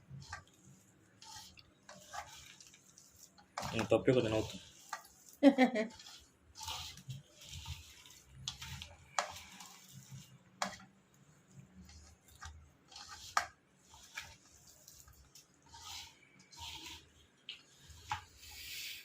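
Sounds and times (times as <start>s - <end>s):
rustling and stirring: 0.0s - 19.0s.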